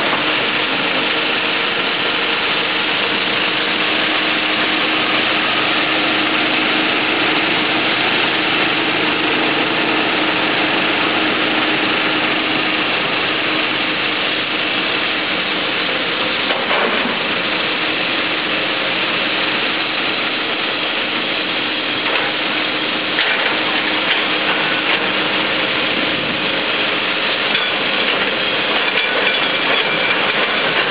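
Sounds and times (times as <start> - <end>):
heavy machinery diesel engines running: 0.0 - 30.9.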